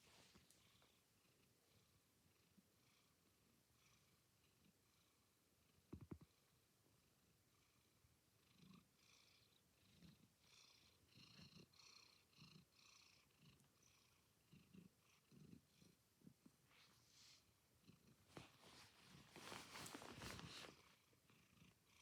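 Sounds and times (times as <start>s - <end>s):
cat purring: 0.1s - 6.6s, 7.4s - 22.0s.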